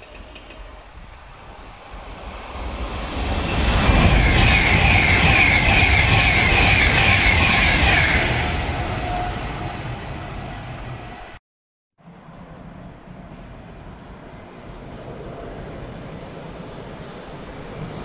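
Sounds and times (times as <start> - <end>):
passenger train passing at speed: 0.0 - 11.4, 12.0 - 18.0.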